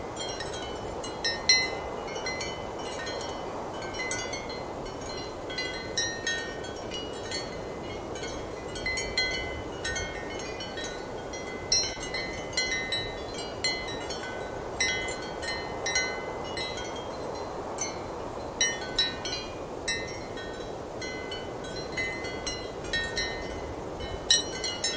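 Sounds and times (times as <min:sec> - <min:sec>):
ceramic wind chimes clinking: 0:00.1 - 0:18.0, 0:18.6 - 0:24.9.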